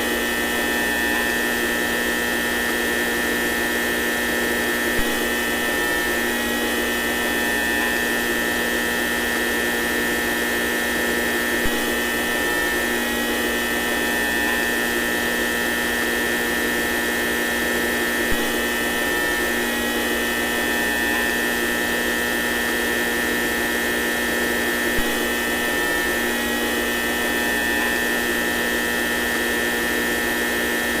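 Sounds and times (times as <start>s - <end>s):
electric light hum: 0.0s - 31.0s.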